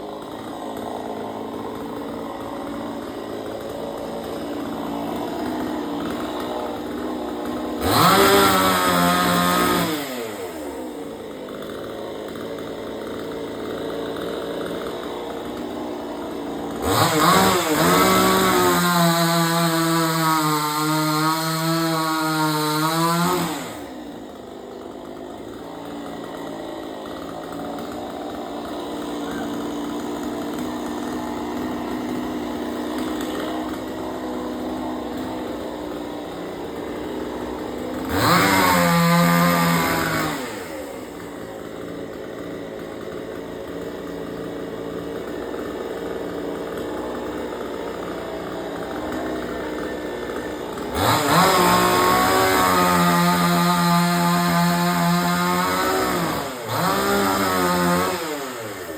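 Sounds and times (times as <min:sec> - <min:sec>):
chainsaw revving and idling: 0:00.0 - 0:58.9.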